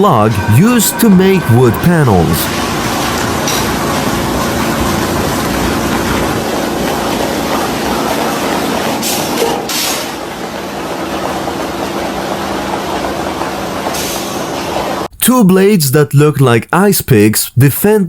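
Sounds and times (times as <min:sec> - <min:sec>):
veneer lathe mechanical hum: 0:00.0 - 0:15.1.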